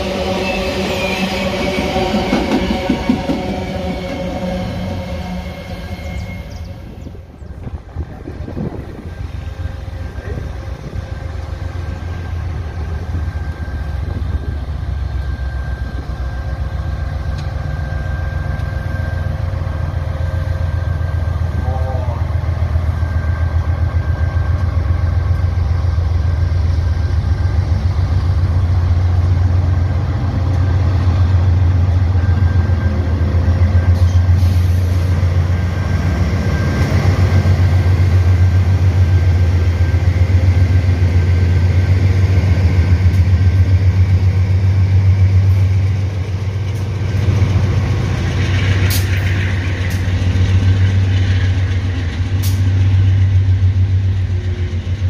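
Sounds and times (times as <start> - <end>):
diesel locomotive engines droning: 0.0 - 55.0.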